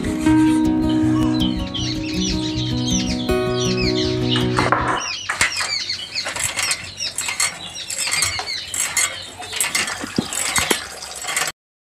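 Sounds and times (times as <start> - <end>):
small birds chirping: 0.2 - 11.5.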